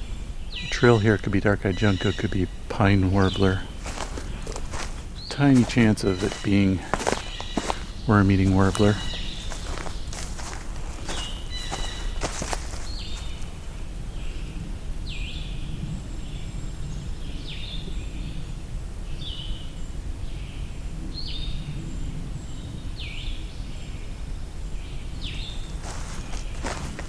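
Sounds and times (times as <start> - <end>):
songbird singing: 0.0 - 27.0
wind rumble: 0.0 - 27.0.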